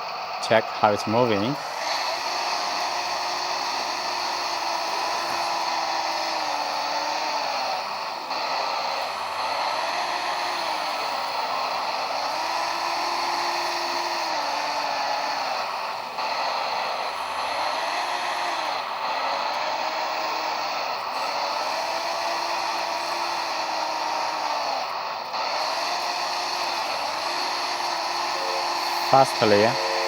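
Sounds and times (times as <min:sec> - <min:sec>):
electric pump whirring: 0:00.0 - 0:30.0
simulated excavator engine sound: 0:00.0 - 0:30.0.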